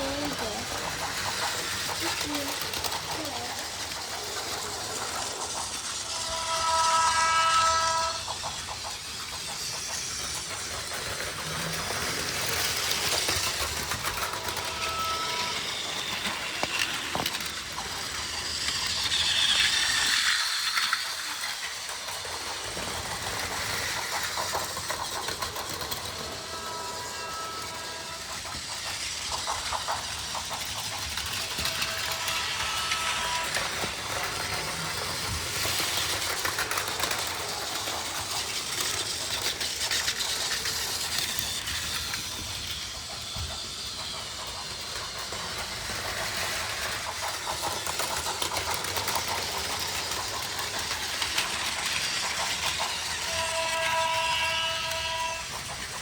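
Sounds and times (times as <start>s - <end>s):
wheels clicking over track joints: 0.0s - 6.7s, 7.9s - 56.0s
toy train motor whir: 0.0s - 56.0s.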